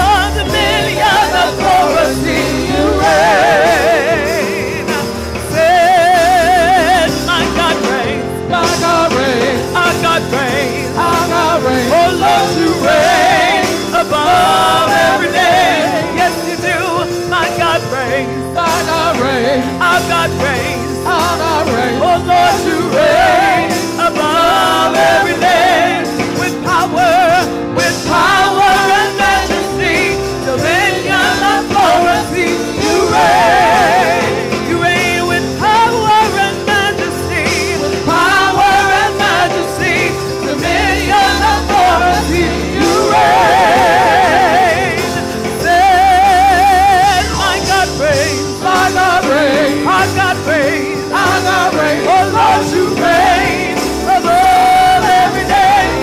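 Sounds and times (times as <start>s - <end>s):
woman singing gospel song: 0.0s - 56.0s.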